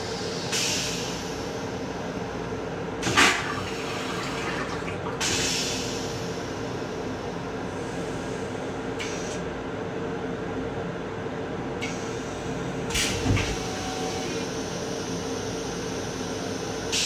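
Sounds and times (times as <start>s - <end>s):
electric railcar rumble and hum: 0.0s - 17.0s.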